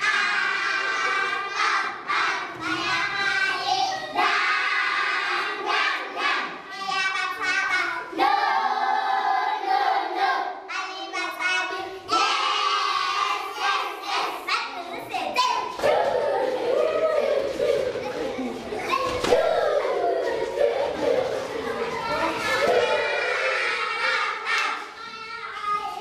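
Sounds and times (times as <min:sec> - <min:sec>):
young voices singing together: 0:00.0 - 0:26.0.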